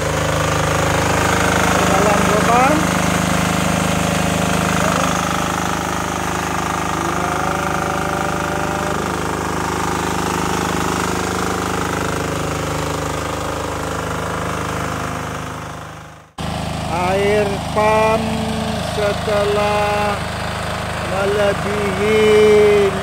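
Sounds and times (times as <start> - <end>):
engine-driven water pump running: 0.0 - 23.0.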